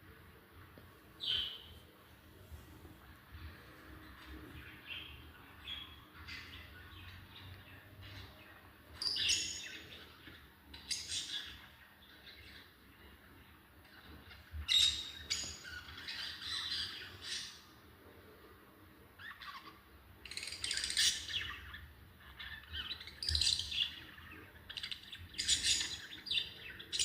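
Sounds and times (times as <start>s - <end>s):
lovebirds chirping and squawking: 1.2s - 1.8s, 3.3s - 12.8s, 13.8s - 17.8s, 19.1s - 27.0s.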